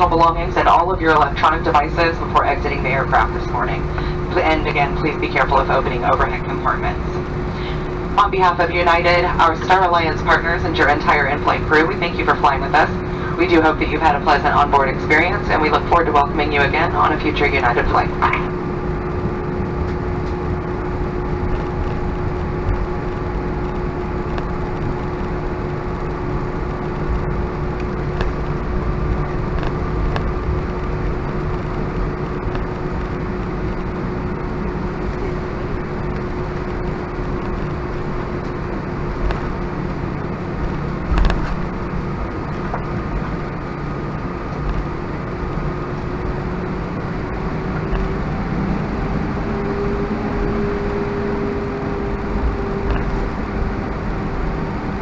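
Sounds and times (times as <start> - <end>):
aircraft cabin engine hum: 0.0 - 55.0.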